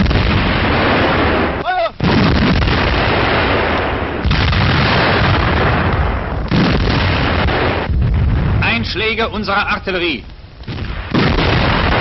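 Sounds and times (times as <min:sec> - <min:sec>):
artillery gun blasts: 0:00.0 - 0:08.9, 0:10.6 - 0:12.0.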